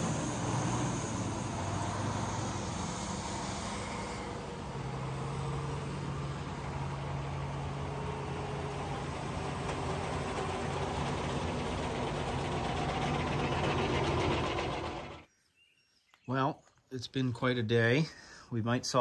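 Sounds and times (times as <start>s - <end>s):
engine humming: 0.0s - 15.3s.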